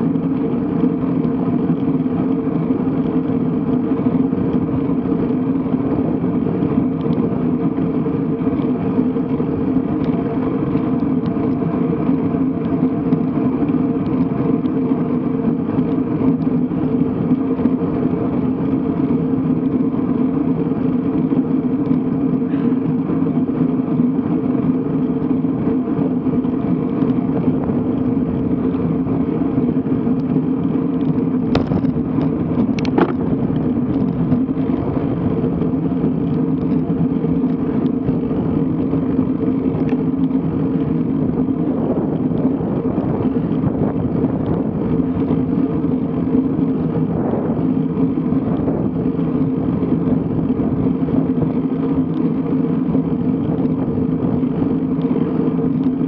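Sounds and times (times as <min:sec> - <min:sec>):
bike riding road and air noise: 0:00.0 - 0:56.0.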